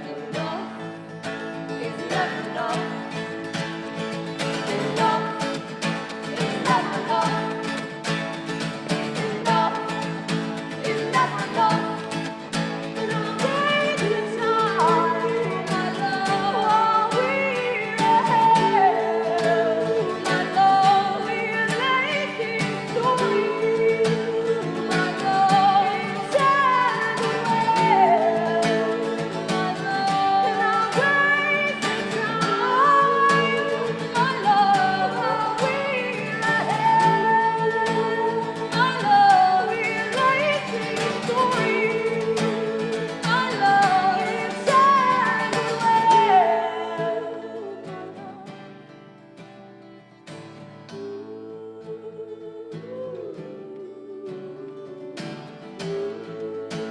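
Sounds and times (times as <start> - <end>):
person singing: 0.0 - 48.8, 50.8 - 56.9
acoustic guitar chords: 0.0 - 56.9.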